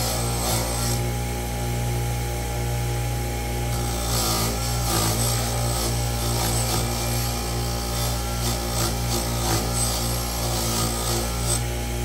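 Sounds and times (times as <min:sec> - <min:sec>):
bench grinder motor hum: 0:00.0 - 0:12.0.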